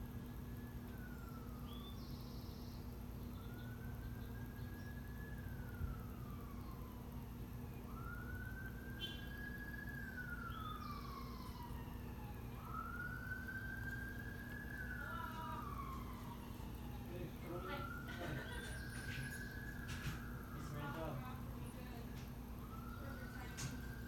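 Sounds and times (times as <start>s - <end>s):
siren wailing: 0.1s - 24.0s.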